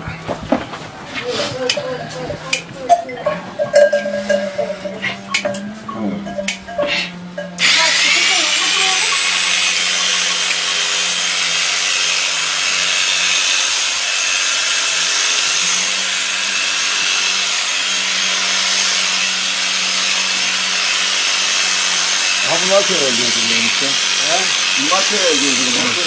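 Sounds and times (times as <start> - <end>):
electric shears humming and whining: 0.0 - 26.0.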